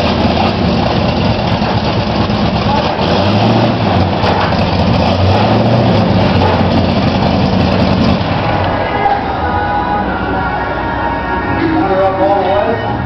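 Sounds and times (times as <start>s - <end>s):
truck engine fast idle: 0.0s - 13.0s.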